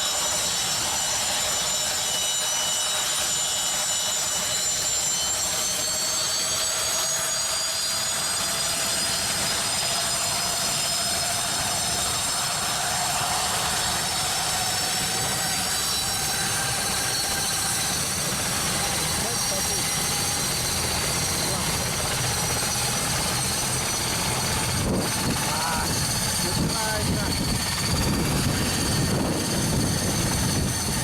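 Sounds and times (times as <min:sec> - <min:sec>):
helicopter turbine engines whining: 0:00.0 - 0:31.0.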